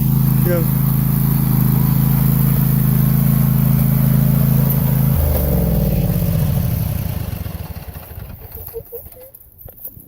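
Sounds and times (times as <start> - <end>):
lawn tractor engine running: 0.0 - 9.6.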